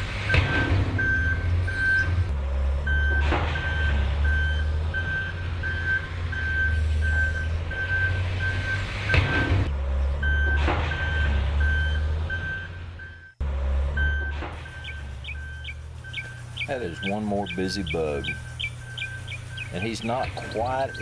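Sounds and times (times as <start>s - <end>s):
low engine rumble: 0.0s - 21.0s
reversing alarm beeping: 0.3s - 9.6s, 10.2s - 21.0s.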